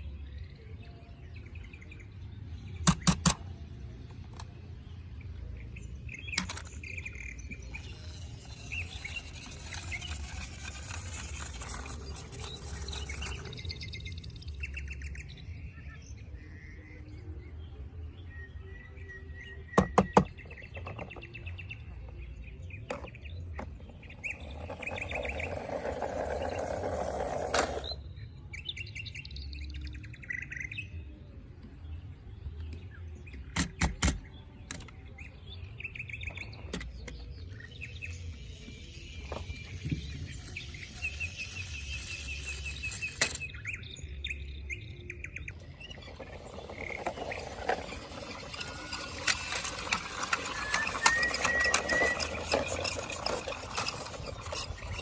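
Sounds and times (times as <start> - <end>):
birds chirping in trills: 0.0 - 31.2, 31.9 - 55.0.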